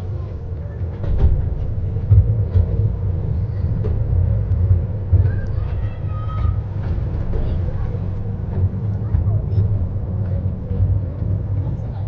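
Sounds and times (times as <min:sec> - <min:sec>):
train carriages rumbling on track: 0:00.0 - 0:12.0
knocks and clatter: 0:00.4 - 0:12.0.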